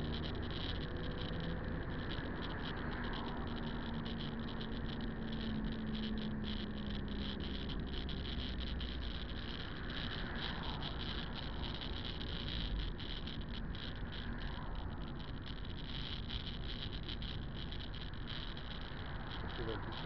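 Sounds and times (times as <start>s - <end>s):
engine and tyre rumble: 0.0s - 20.0s
fluttering hiss: 0.0s - 20.0s.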